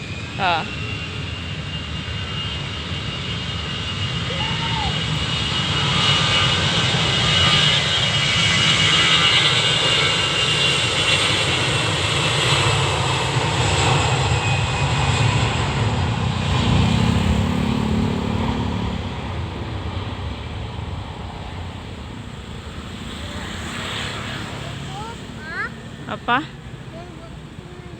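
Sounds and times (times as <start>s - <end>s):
airliner engines rumbling with high whine: 0.0s - 27.9s.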